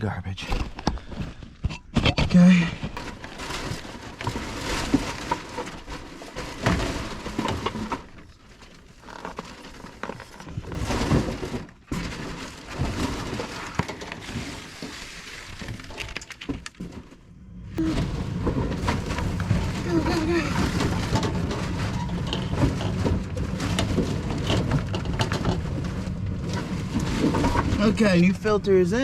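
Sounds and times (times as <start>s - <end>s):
furnace filter rustling and knocking: 0.6s - 17.2s, 17.8s - 28.4s.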